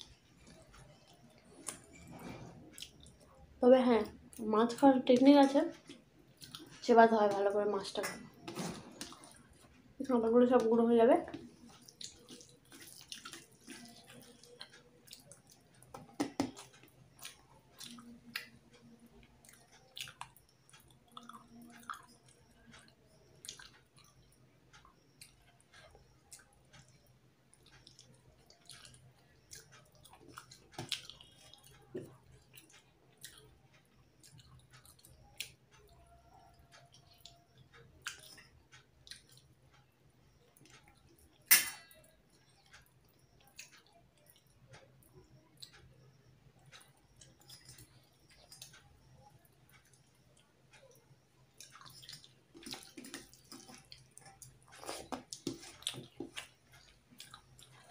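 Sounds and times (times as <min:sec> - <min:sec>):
person chewing: 0:00.2 - 0:03.2, 0:05.7 - 0:06.8, 0:08.4 - 0:09.8, 0:11.4 - 0:39.6, 0:42.3 - 0:45.9, 0:46.6 - 0:57.9.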